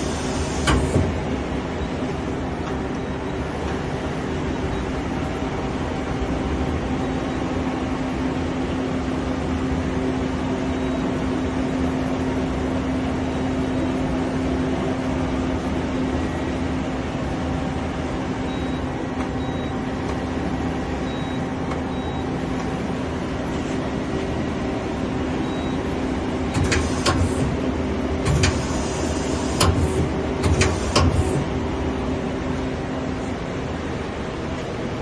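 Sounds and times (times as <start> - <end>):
lathe mechanical hum: 0.0 - 35.0.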